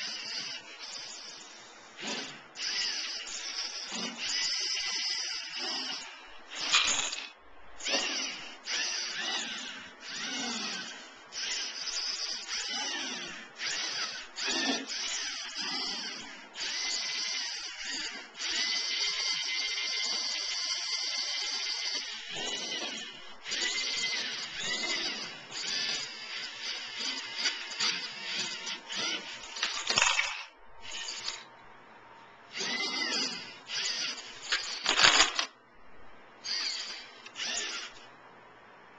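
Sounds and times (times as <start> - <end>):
servo motors whining: 0.0 - 31.5, 32.5 - 35.5, 36.4 - 38.1.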